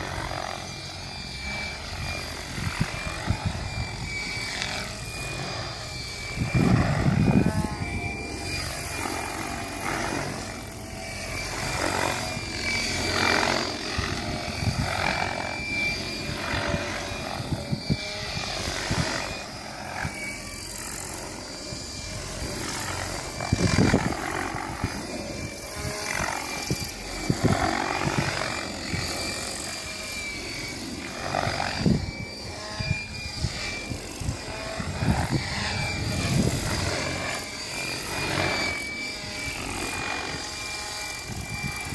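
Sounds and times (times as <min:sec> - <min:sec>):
rc helicopter motor whine: 0:00.0 - 0:41.9.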